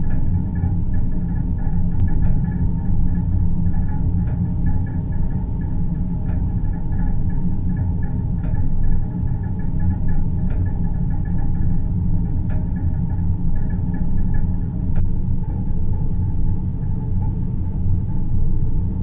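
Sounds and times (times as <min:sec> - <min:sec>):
low rumbling drone: 0:00.0 - 0:19.0.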